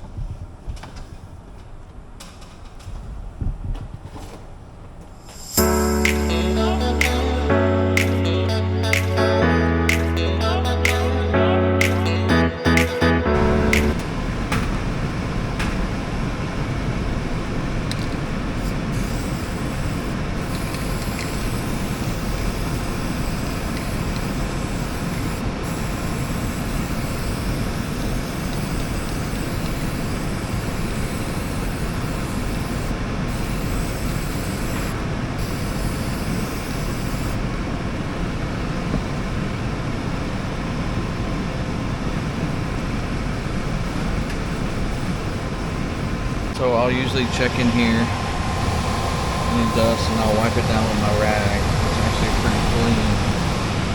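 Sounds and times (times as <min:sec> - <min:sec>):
air conditioner humming: 0:00.0 - 0:53.9.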